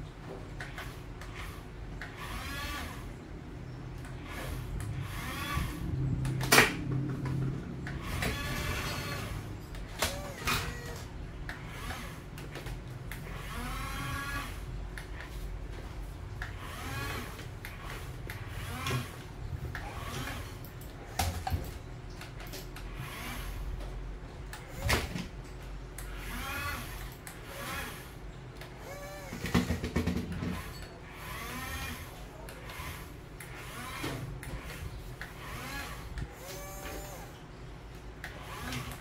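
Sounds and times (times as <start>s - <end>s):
toy excavator electric motors whining: 0.6s - 3.2s, 4.0s - 15.8s, 16.4s - 21.7s, 22.5s - 23.9s, 24.5s - 25.3s, 26.0s - 37.5s, 38.2s - 39.0s.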